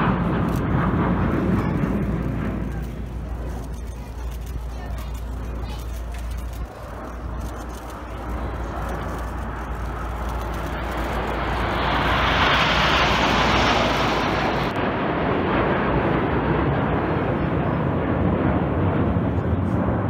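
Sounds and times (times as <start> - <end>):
jets flying past overhead: 0.0 - 20.0.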